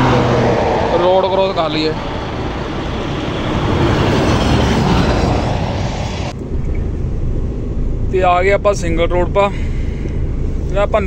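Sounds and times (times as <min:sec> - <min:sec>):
truck engine rumble inside cab: 0:00.0 - 0:11.0
trucks passing on highway: 0:00.0 - 0:11.0.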